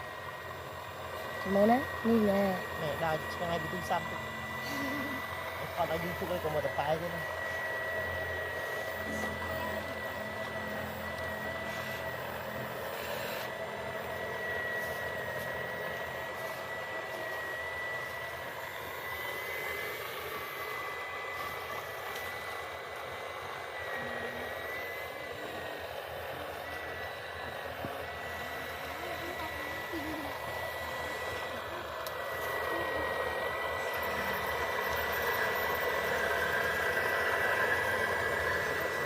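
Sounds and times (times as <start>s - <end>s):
high-pitched electric motor whine: 0.0s - 39.0s
rushing mechanical noise: 0.0s - 39.0s.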